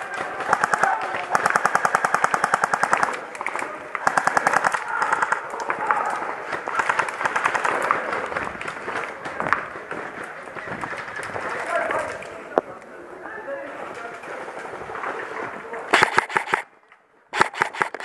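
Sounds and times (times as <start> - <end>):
airsoft guns firing bursts: 0.0 - 12.2, 14.9 - 16.7, 17.4 - 18.0.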